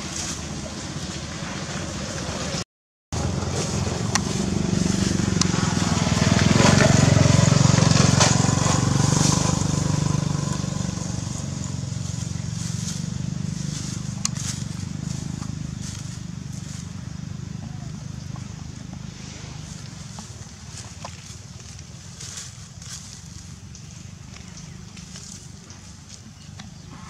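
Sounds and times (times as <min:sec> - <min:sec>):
motor engine rumbling: 0:00.0 - 0:27.0.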